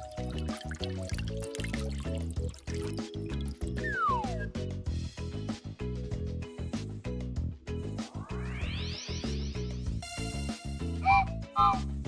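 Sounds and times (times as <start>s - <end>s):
upbeat background music: 0.0s - 12.0s.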